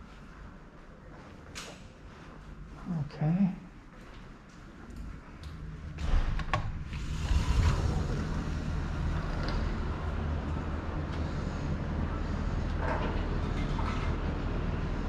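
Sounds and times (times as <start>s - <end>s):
city traffic and machinery hum: 0.0s - 15.0s.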